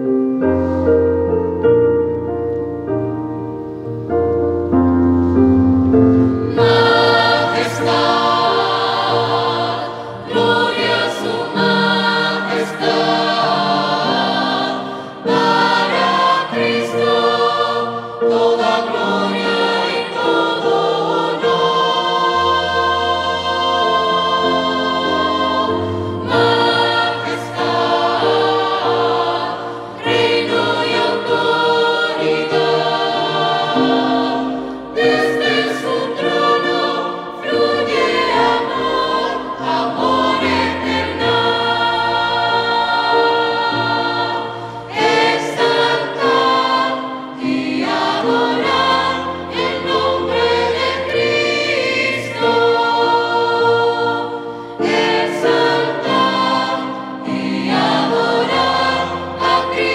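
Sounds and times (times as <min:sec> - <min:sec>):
electronic keyboard piano sound: 0:00.0 - 0:59.9
choir singing a sacred song: 0:05.2 - 0:59.9.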